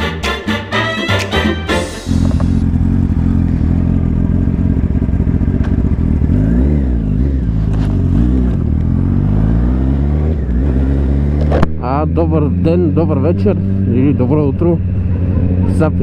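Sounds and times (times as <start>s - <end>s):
motorcycle engine revving: 1.8s - 16.0s.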